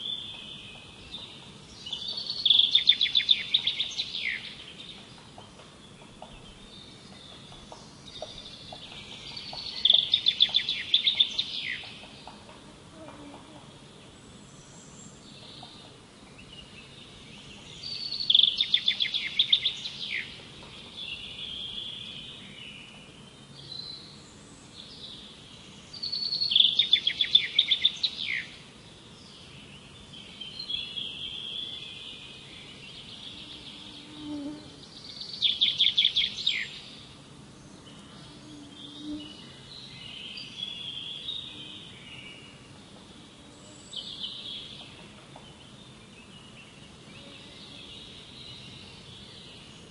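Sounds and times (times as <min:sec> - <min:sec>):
birds chirping softly: 0:00.0 - 0:49.9.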